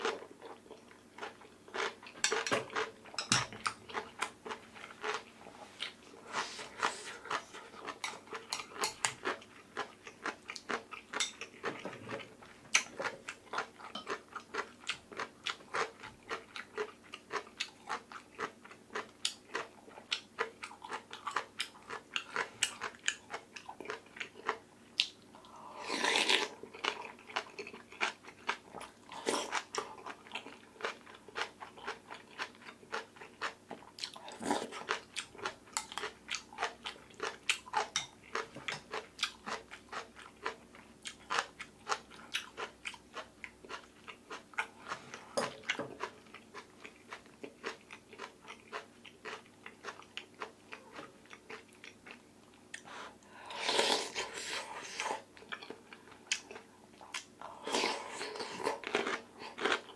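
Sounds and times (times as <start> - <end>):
crunching and chewing food: 0.0 - 59.9.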